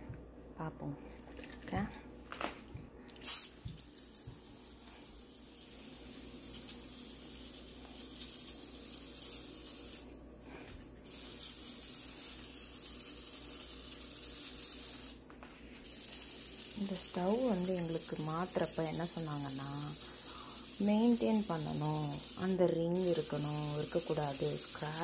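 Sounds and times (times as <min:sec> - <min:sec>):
aerosol can spraying: 0:03.2 - 0:10.2, 0:11.0 - 0:25.0.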